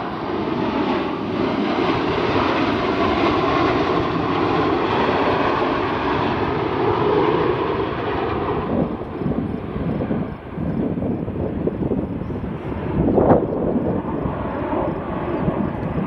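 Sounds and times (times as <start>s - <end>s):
jet fighters flying past: 0.0s - 16.0s.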